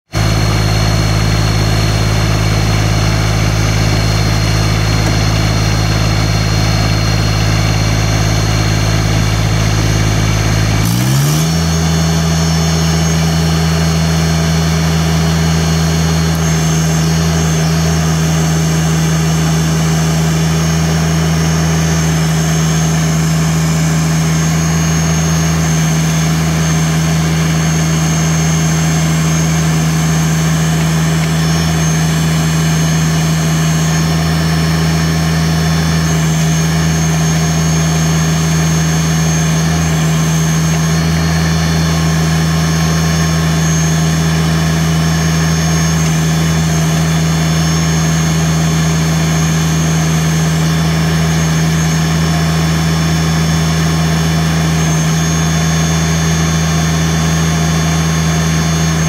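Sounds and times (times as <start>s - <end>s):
tractor diesel engine running: 0.0s - 59.0s
backhoe digging: 0.2s - 59.0s.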